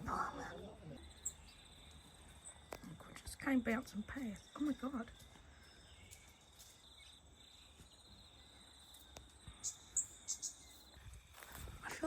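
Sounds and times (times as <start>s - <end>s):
crickets trilling: 0.0s - 12.0s
sharp cricket chirps: 0.0s - 12.0s.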